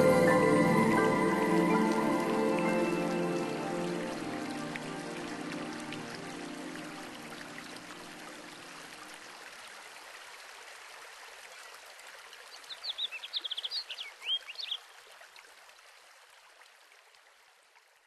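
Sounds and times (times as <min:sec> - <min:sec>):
stream water rushing: 0:00.0 - 0:17.7.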